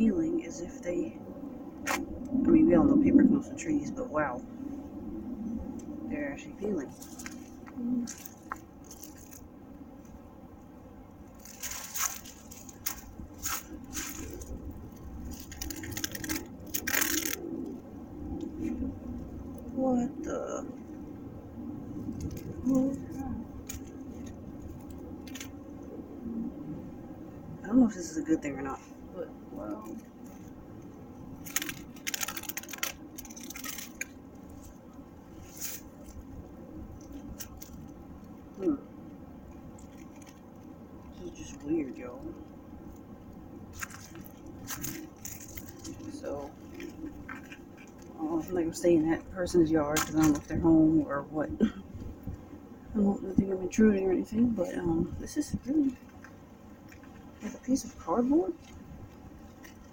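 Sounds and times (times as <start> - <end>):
tree bark crackling and scraping: 5.6 - 10.2, 11.2 - 26.1, 27.9 - 51.4, 52.1 - 59.9.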